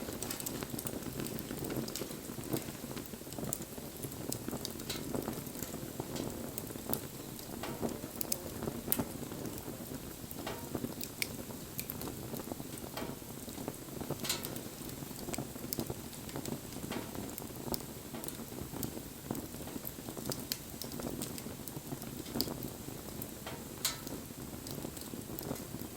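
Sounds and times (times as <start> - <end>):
burning wood crackling: 0.0 - 25.9
fire flames rushing: 0.0 - 25.9.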